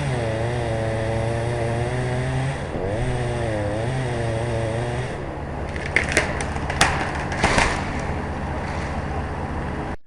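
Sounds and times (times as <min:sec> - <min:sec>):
chainsaw engine running: 0:00.0 - 0:09.4.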